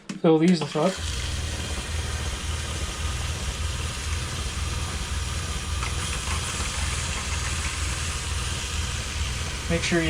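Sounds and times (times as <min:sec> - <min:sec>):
faucet running: 0:00.6 - 0:10.0
water pump humming: 0:00.6 - 0:10.0.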